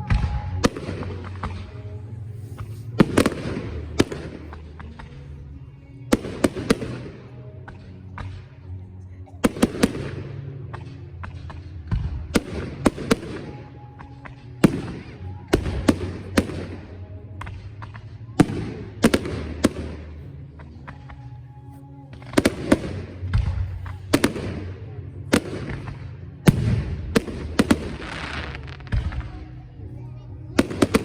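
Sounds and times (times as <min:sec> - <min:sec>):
fireworks bursting in sharp bangs: 0:00.0 - 0:05.4, 0:06.1 - 0:08.6, 0:09.4 - 0:21.4, 0:22.1 - 0:29.6, 0:30.6 - 0:31.0.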